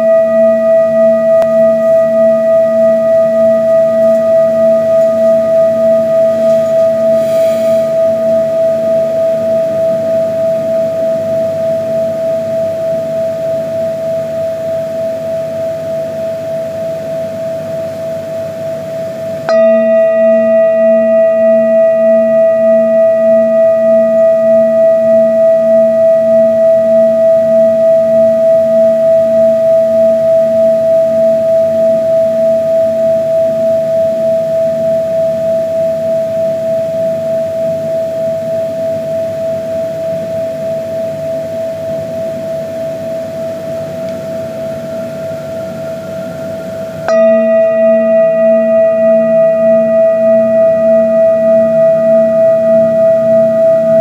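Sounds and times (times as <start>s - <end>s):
singing bowl ringing: 0.0s - 54.0s
singing bowl struck: 0.0s - 54.0s.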